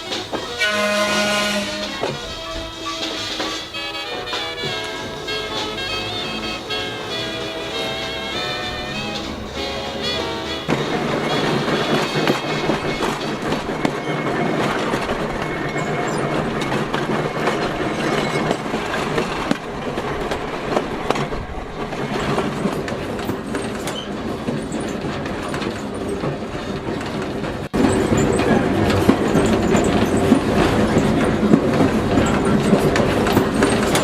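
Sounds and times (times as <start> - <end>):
railcar wheels clicking over rail joints: 0.0 - 34.0
wheel squeal: 0.0 - 34.0.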